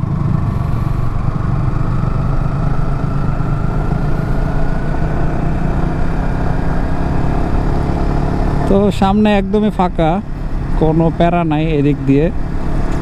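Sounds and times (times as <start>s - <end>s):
motorbike engine accelerating: 0.0s - 13.0s.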